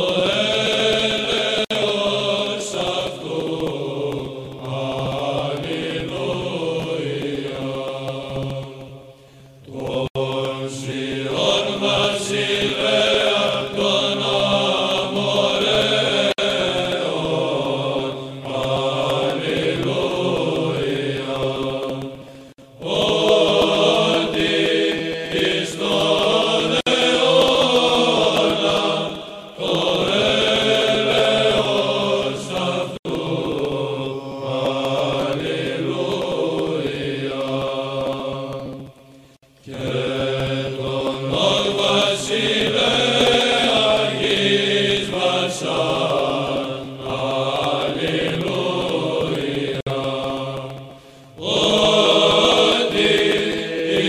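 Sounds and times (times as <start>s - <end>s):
slow vocal chant: 0.0s - 54.0s.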